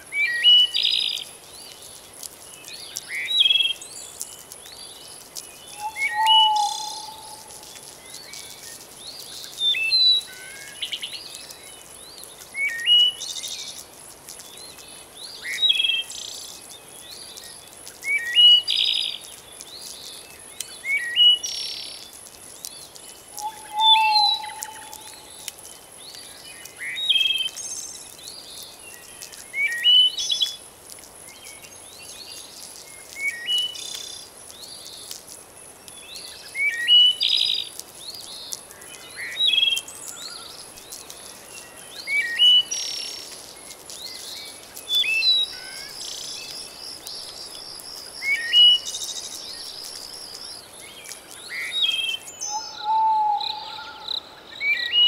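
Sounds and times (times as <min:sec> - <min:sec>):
flowing water hiss: 0:00.0 - 0:55.0
songbird chirping: 0:00.0 - 0:55.0.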